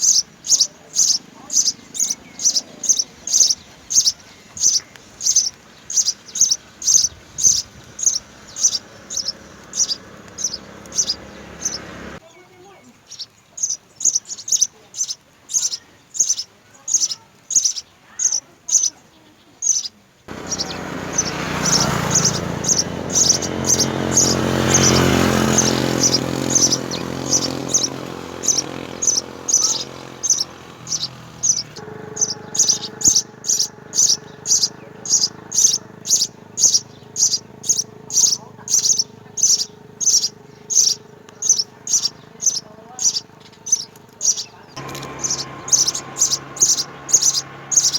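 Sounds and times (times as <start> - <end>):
sparrow chirping: 0.0 - 47.9.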